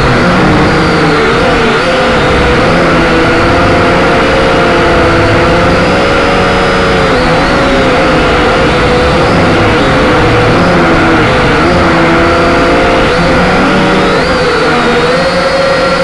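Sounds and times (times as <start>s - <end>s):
quadcopter propellers whirring: 0.0s - 16.0s.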